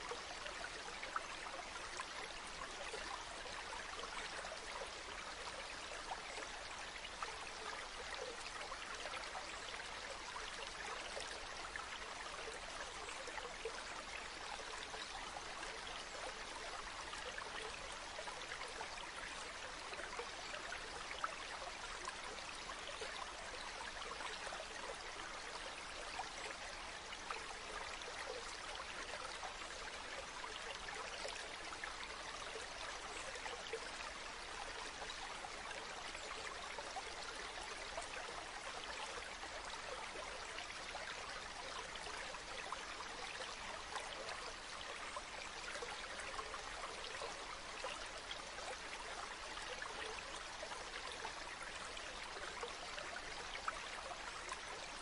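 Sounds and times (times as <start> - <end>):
stream babbling over pebbles: 0.0 - 55.0.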